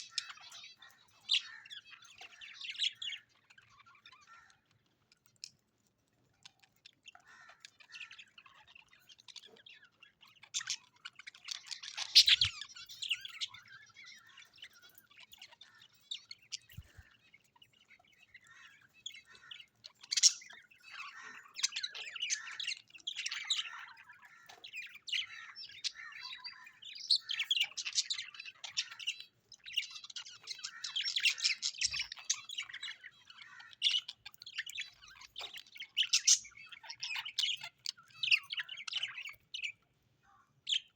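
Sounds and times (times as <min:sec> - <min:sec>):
small parrots chattering: 0:00.0 - 0:39.9, 0:40.6 - 0:40.9.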